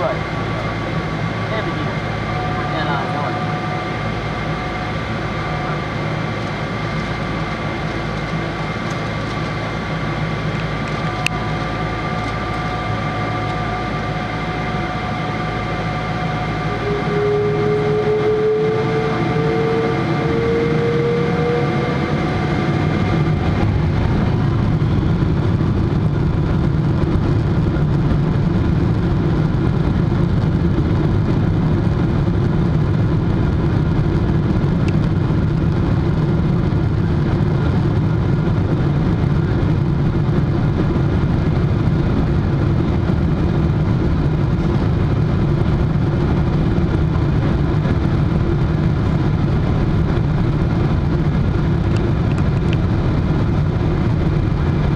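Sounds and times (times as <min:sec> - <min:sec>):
jet engines rumbling in cabin: 0:00.0 - 0:54.9.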